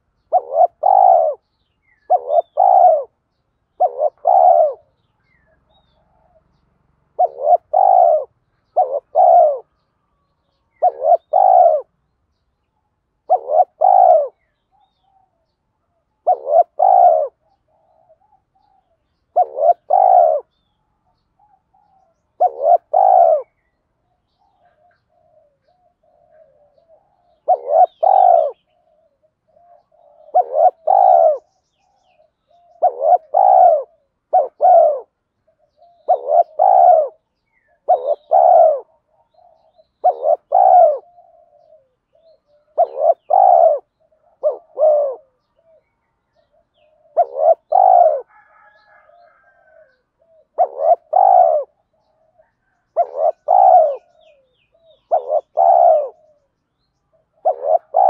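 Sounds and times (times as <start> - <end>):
dove cooing: 0.0 - 12.0, 13.2 - 58.0.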